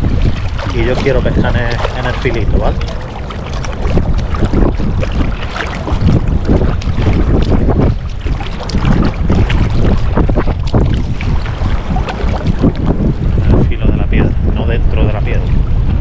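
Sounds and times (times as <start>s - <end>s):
small waves splashing: 0.0s - 16.0s
wind buffeting microphone: 0.0s - 16.0s.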